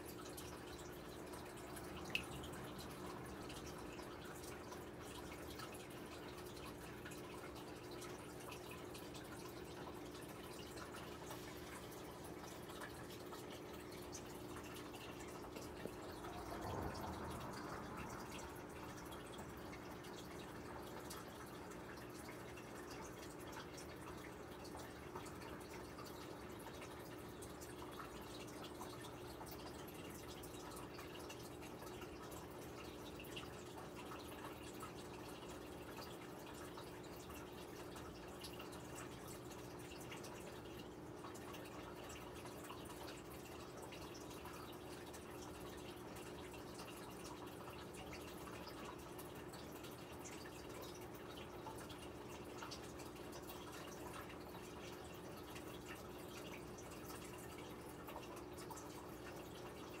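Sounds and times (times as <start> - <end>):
water drips and plinks: 0.0 - 60.0.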